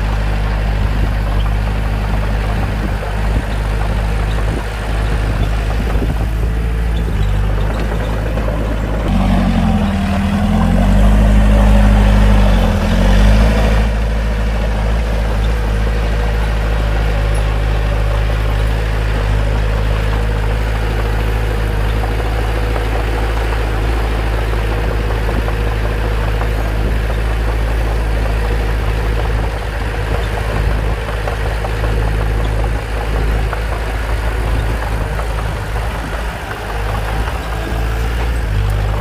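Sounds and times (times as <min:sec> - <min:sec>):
bulldozer diesel engine droning: 0:00.0 - 0:39.0.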